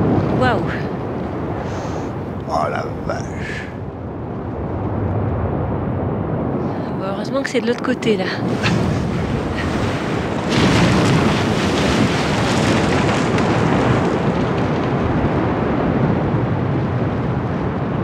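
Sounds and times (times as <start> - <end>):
avalanche rushing rumble: 0.0 - 18.0.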